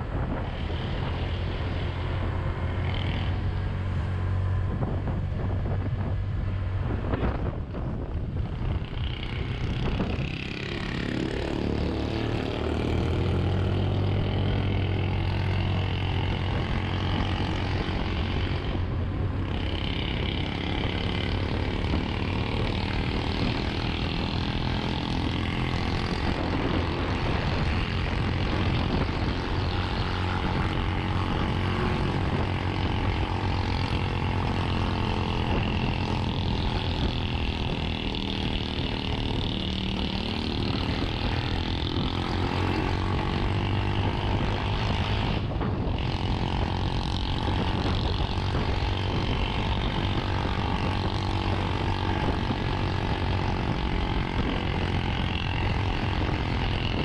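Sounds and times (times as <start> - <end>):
scooter engine running: 0.0 - 57.0
wind rush: 0.0 - 57.0.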